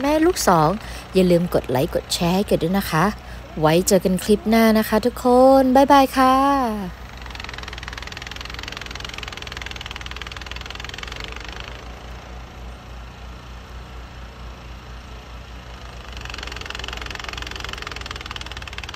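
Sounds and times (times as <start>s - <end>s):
snowblower engine running: 0.0s - 18.9s.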